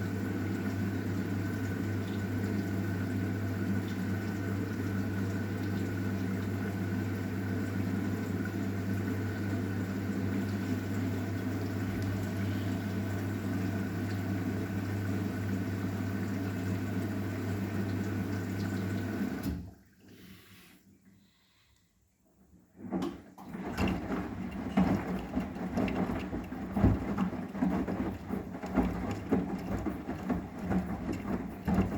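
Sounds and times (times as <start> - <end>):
washing machine humming: 0.0 - 31.9.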